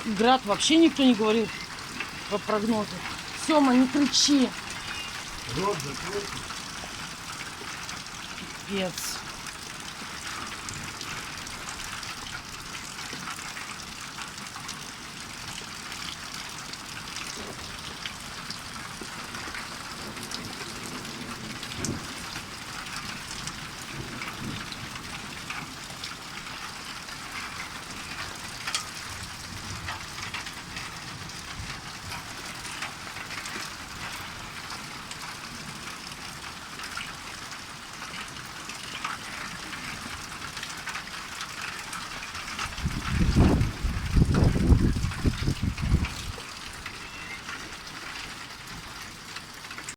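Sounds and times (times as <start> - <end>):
hailstones ticking: 0.0 - 49.9
heavy rain hiss: 0.0 - 49.9.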